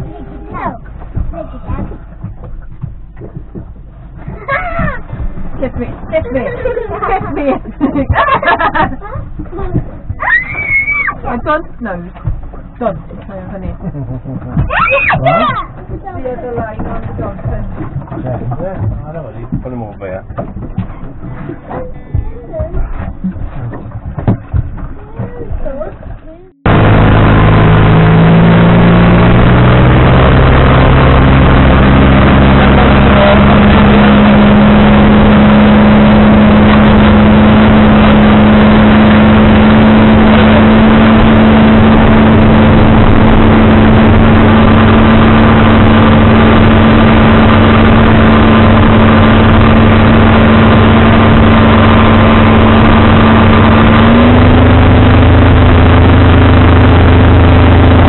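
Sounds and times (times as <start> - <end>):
outboard motor running: 0.0 - 58.0
rush of wind and water: 0.0 - 58.0.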